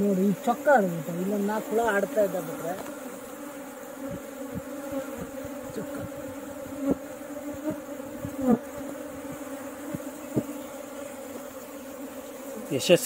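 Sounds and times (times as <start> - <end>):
bee colony humming: 0.0 - 13.0
single bees flying past: 0.0 - 13.0.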